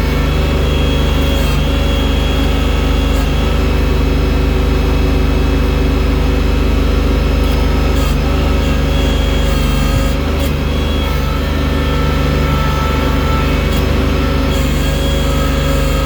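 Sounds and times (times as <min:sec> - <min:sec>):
tractor engine running under load: 0:00.0 - 0:16.0.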